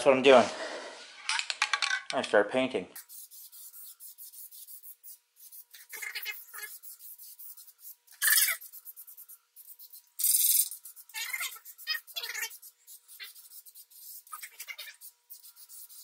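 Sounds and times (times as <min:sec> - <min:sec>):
spray can hissing: 0:03.0 - 0:16.0.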